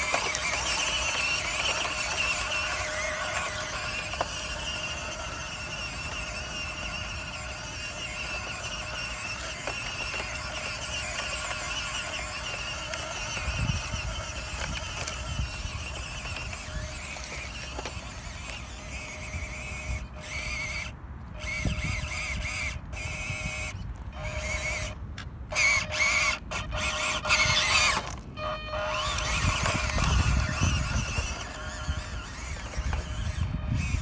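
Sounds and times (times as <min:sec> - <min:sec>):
toy car electric motor whining: 0:00.0 - 0:34.0.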